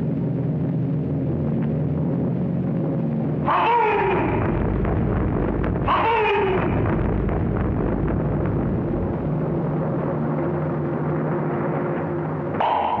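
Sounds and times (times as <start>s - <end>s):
continuous rumbling noise: 0.0s - 13.0s
low steady hum: 0.0s - 13.0s.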